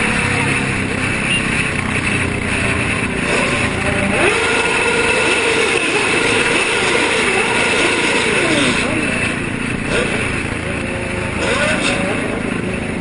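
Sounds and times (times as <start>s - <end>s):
motorcycle engines revving: 0.0s - 13.0s
traffic noise: 0.0s - 13.0s.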